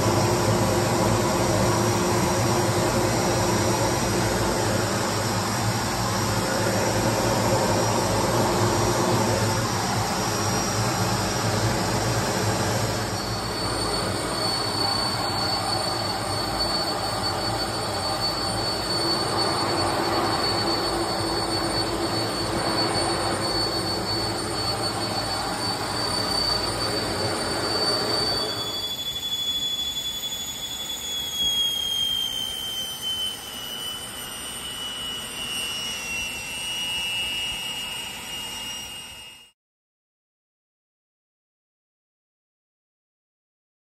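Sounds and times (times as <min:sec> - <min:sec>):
jet cockpit air rush: 0:00.0 - 0:39.2
high turbine whine: 0:00.0 - 0:39.6.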